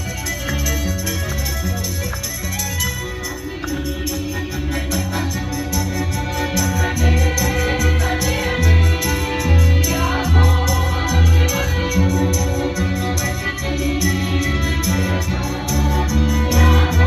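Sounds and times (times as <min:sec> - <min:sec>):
heavy repeating bass line: 0:00.0 - 0:17.0
instrumental backing with beat: 0:00.0 - 0:17.0
choir singing: 0:03.2 - 0:17.0.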